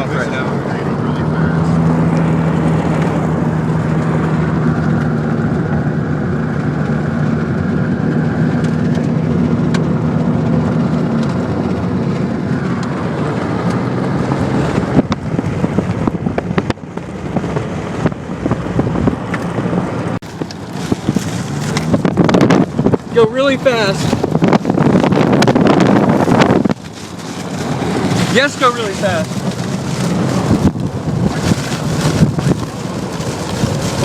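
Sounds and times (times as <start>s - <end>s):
car engine and road drone: 0.0s - 34.0s
gusty noise: 0.0s - 34.0s.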